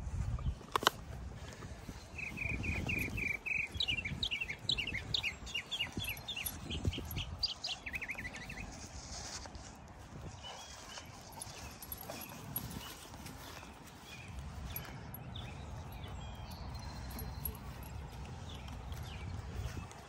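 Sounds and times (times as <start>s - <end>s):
footsteps rustling in grass: 0.0s - 20.0s
songbird singing: 0.2s - 9.4s, 10.2s - 20.0s.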